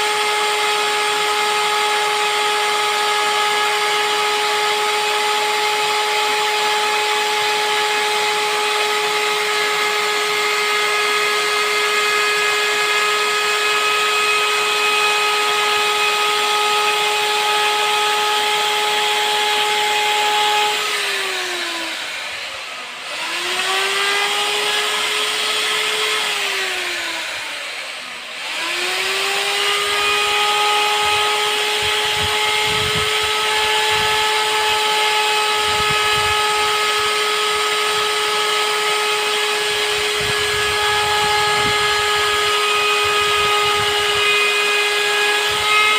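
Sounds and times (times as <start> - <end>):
router motor whine: 0.0 - 45.9.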